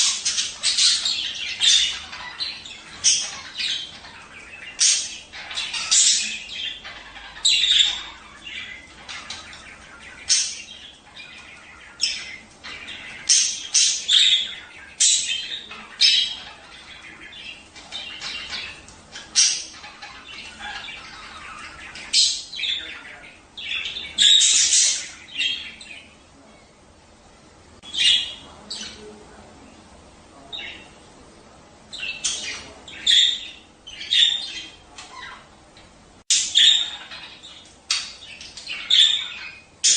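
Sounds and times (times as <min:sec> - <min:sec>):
budgerigars chattering and squawking: 0:00.0 - 0:26.4, 0:27.8 - 0:29.4, 0:31.8 - 0:39.9.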